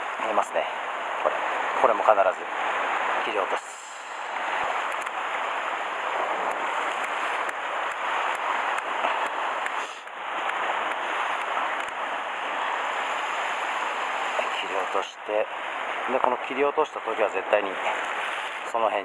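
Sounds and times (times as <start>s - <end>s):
sea surf on rocky shore: 0.0s - 19.0s.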